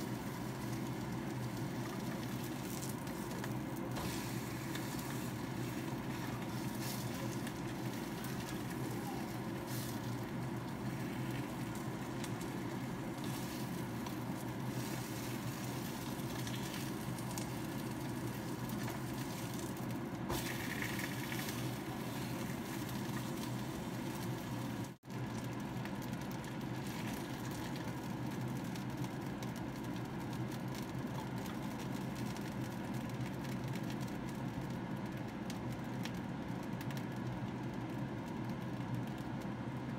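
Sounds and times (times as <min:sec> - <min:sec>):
chicken sizzling in oil: 0:00.0 - 0:34.3.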